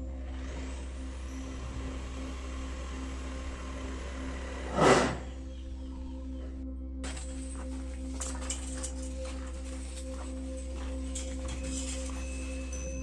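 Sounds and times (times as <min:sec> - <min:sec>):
background music with low pulse: 0:00.0 - 0:13.0.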